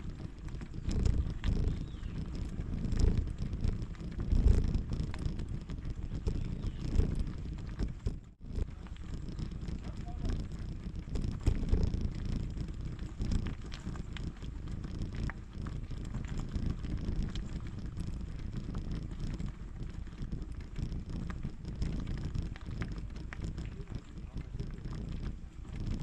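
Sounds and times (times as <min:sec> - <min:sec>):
bicycle tyres rolling on gravel: 0:00.0 - 0:26.0
small clicks and rattles: 0:00.0 - 0:26.0
wind buffeting microphone: 0:00.0 - 0:26.0.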